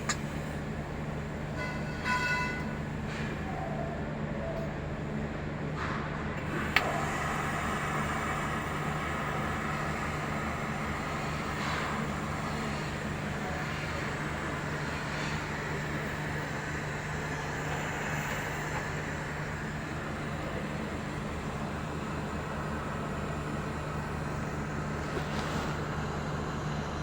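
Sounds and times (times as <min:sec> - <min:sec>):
welding arc hum and hiss: 0:00.0 - 0:27.0.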